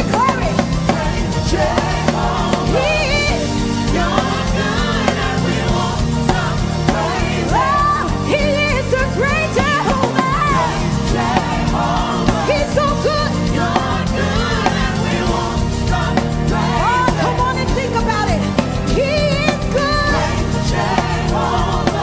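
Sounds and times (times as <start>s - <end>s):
keyboard bass and drums: 0.0s - 22.0s
person singing gospel: 0.0s - 22.0s.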